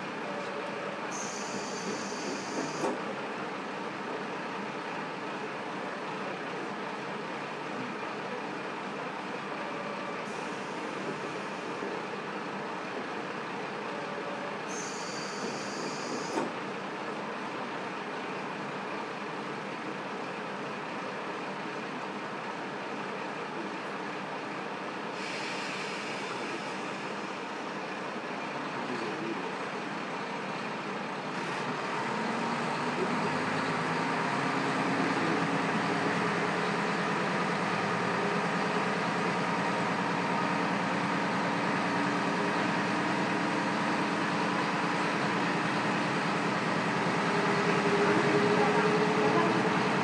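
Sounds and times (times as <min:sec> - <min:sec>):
diesel railcar engine: 0:00.0 - 0:50.0.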